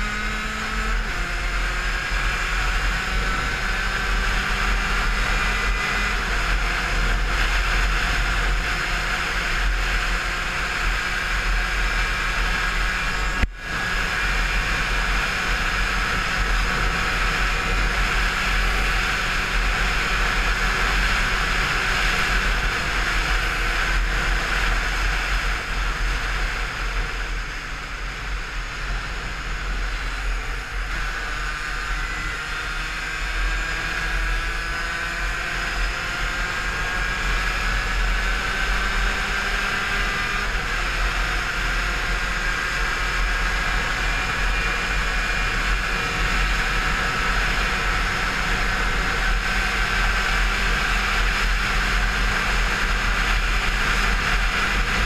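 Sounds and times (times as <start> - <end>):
two-stroke engine at high revs: 0.0 - 55.0.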